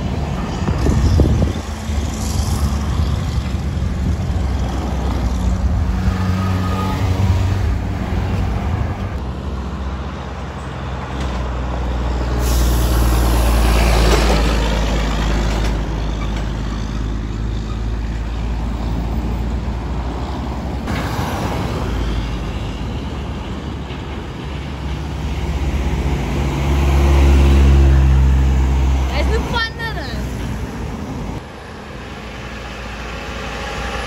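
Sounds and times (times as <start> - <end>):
trucks and traffic passing: 0.0 - 34.0.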